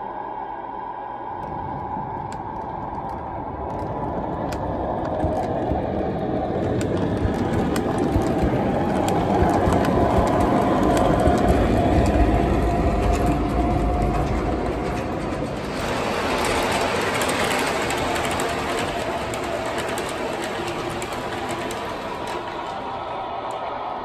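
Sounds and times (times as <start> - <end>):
steady whine: 0.0 - 24.0
model train rumbling on track: 1.4 - 24.0.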